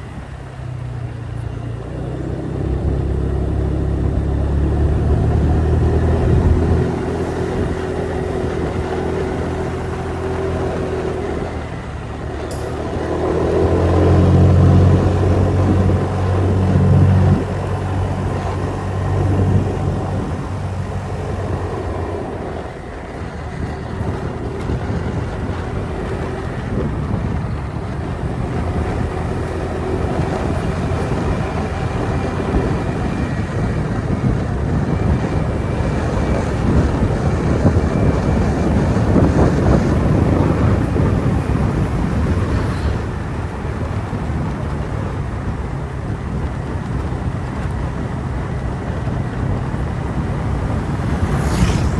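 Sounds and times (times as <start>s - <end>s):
motorbike engine running: 0.0s - 51.9s
road noise: 0.0s - 51.9s
wind on microphone: 1.9s - 51.9s.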